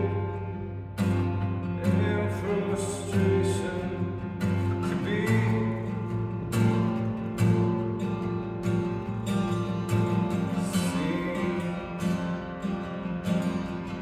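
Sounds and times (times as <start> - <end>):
acoustic guitar strummed slowly: 0.0 - 14.0.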